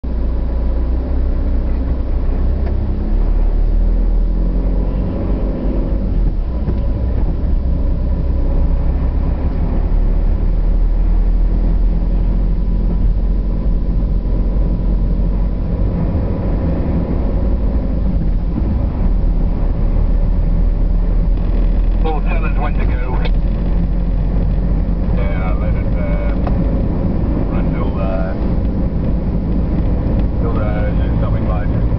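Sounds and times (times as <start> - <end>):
car engine and tyre rumble: 0.0 - 31.9.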